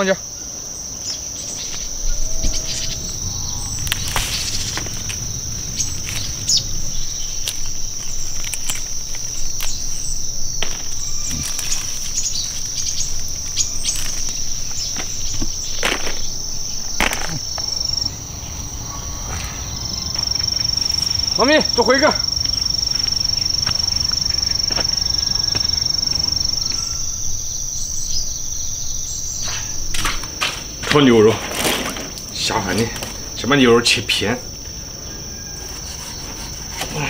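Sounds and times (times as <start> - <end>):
insects shrilling: 0.0 - 37.0.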